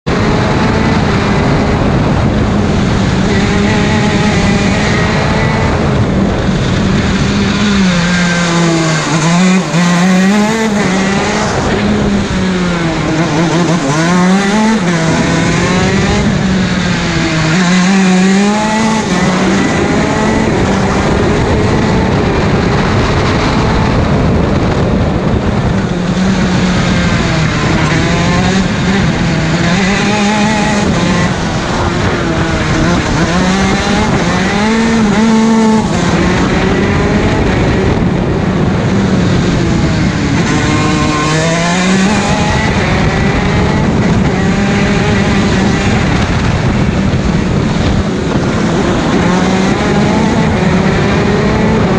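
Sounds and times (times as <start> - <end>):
kart engine revving: 0.0 - 51.9.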